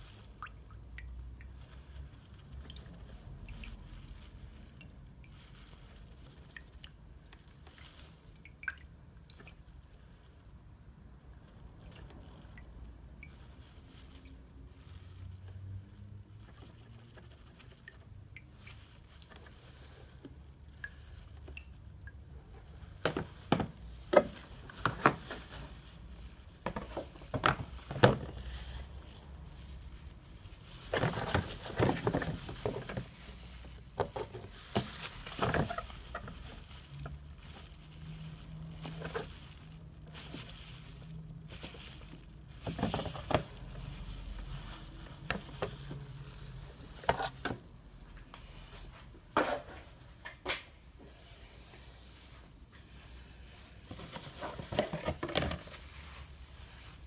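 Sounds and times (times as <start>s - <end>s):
rustling: 0.0s - 57.0s.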